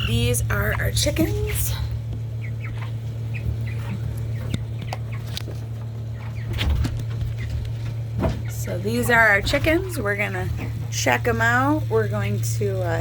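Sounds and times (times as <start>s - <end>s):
chickens calling: 0.0s - 13.0s
steady low hum: 0.0s - 13.0s.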